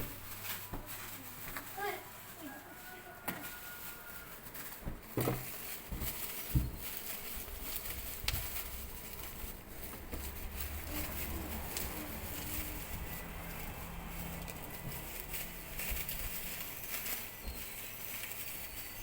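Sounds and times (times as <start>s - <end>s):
packaging clicks and rustles: 0.0s - 19.0s.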